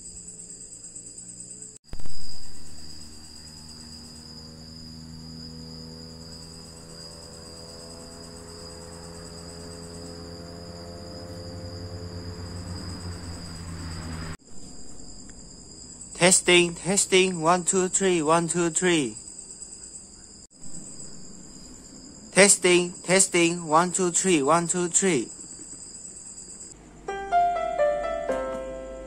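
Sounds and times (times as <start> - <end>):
insects trilling: 0.0 - 27.3.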